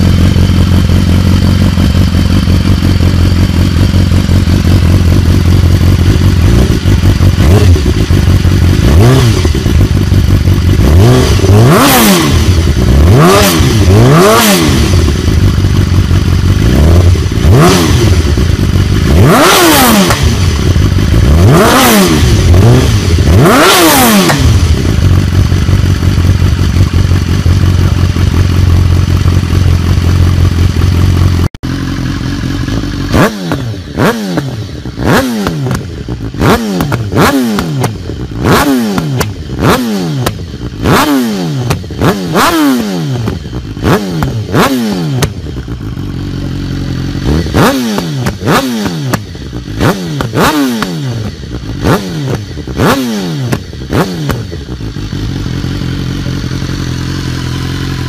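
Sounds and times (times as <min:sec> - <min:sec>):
motorcycle engine idling: 0:00.0 - 0:58.0
motorcycle engine revving: 0:00.0 - 0:58.0.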